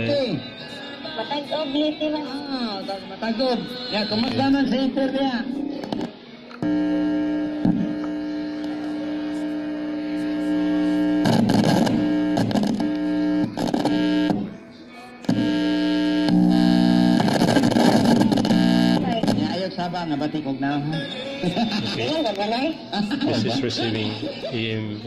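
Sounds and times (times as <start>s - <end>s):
loud mains hum: 0.0s - 25.0s.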